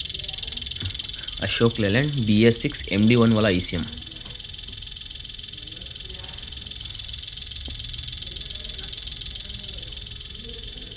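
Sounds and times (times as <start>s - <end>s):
rapid even injector ticking: 0.0s - 10.9s.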